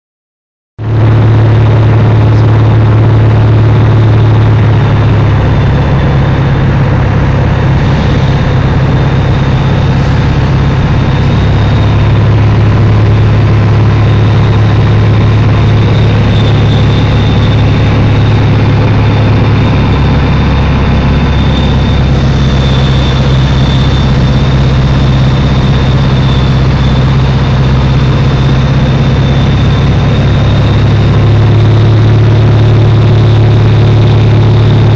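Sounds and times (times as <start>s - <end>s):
aircraft engine drone: 0.8s - 34.9s
high whine: 0.8s - 34.9s.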